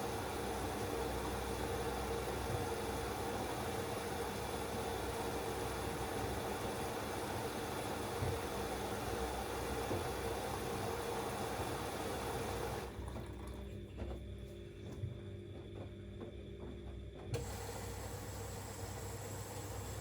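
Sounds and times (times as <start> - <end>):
washing machine hiss and hum: 0.0 - 20.0.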